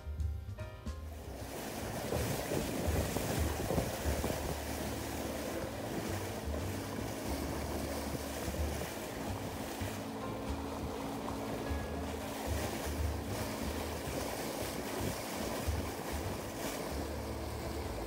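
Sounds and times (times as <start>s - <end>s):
music: 0.0s - 18.0s
sea water rushing: 1.1s - 18.0s
wind buffeting microphone: 1.1s - 18.0s.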